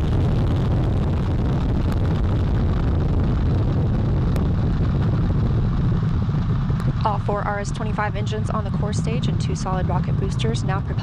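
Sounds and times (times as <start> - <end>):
rocket engines deep rumble: 0.0 - 11.0.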